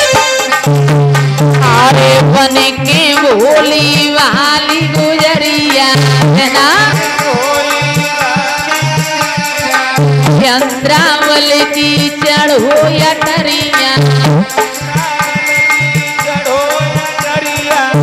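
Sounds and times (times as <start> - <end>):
hand drum rhythm: 0.0 - 18.0.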